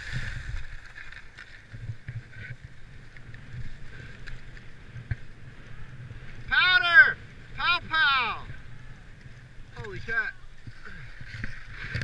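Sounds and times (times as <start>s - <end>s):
skis scraping over snow: 0.0s - 12.0s
wind rumbling on microphone: 0.0s - 12.0s.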